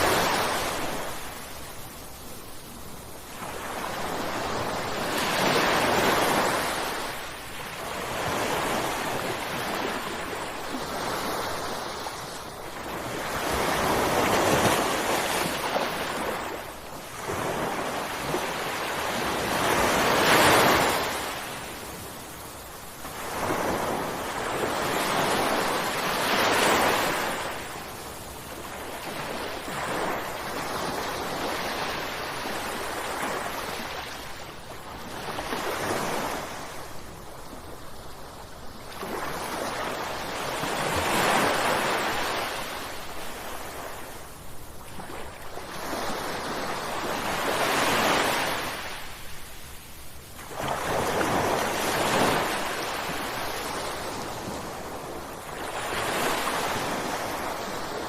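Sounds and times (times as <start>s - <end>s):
ocean waves crashing: 0.0s - 34.3s, 39.0s - 58.0s.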